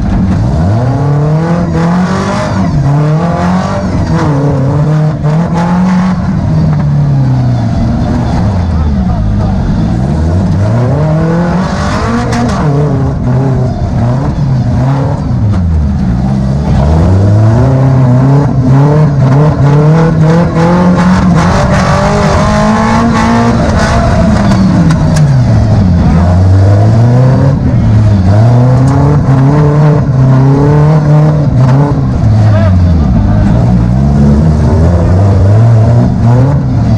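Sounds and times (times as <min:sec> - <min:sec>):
buggy engine revving: 0:00.0 - 0:36.9.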